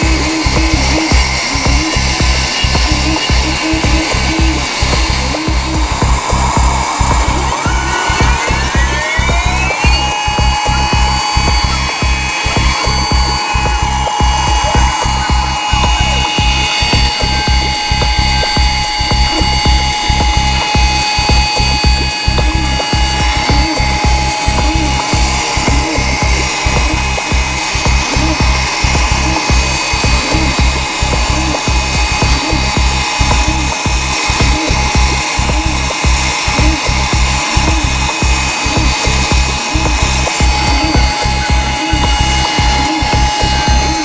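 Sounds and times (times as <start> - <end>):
music with clicking beat: 0.0 - 44.0.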